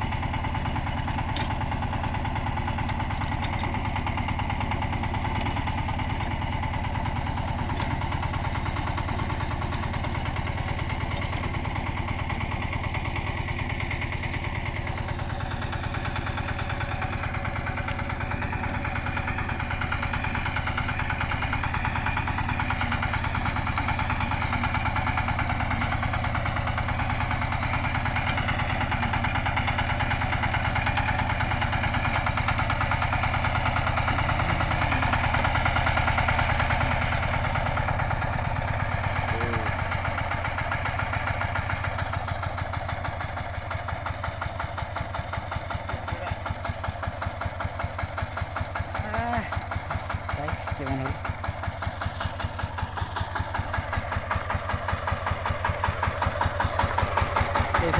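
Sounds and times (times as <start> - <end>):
diesel tiller engine running: 0.0 - 57.9.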